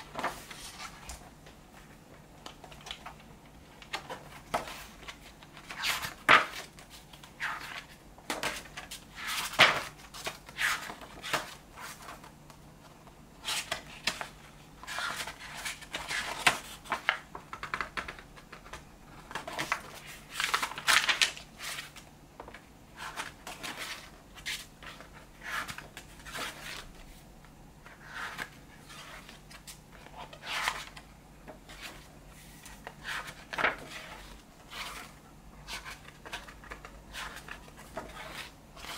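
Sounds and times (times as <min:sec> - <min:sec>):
book pages rustling and flipping: 0:00.0 - 0:38.9.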